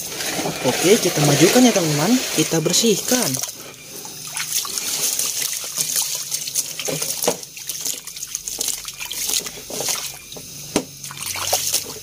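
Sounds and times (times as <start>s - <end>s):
water trickling: 0.5s - 10.4s, 11.0s - 12.0s
small splashes: 1.3s - 10.2s, 11.0s - 12.0s.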